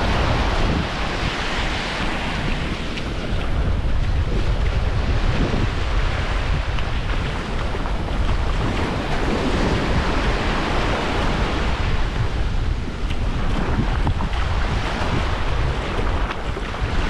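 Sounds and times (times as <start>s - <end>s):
surf washing on beach: 0.0s - 17.0s
wind buffeting microphone: 0.0s - 17.0s.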